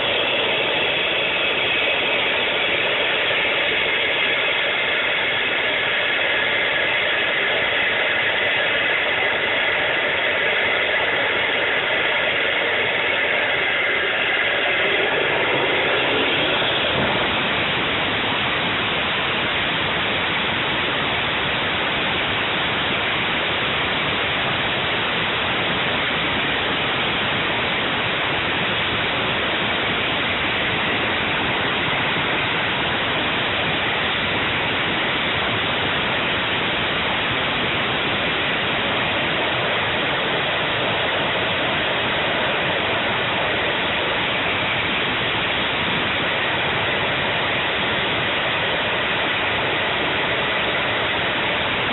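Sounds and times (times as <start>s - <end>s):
jet engine running: 0.0s - 51.9s.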